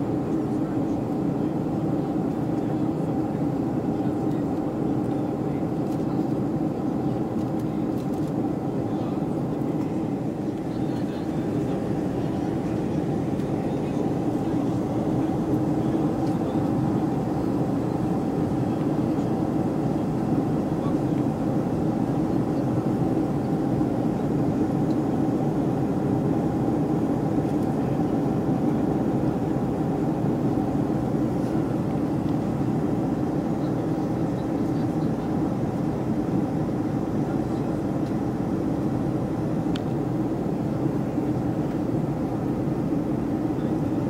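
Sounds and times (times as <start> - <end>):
airliner cabin drone: 0.0 - 44.0.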